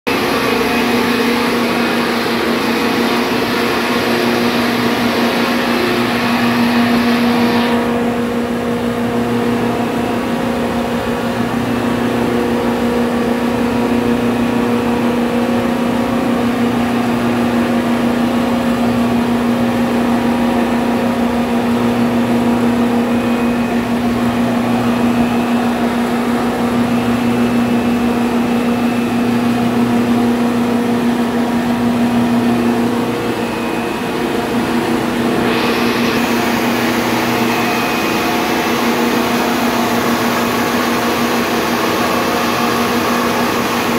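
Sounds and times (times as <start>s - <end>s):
refrigeration compressor hum: 0.1s - 43.9s.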